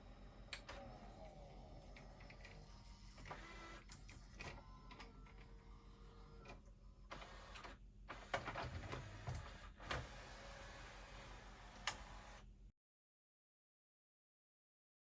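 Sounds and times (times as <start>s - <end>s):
disc player motor whirring: 0.0s - 12.4s.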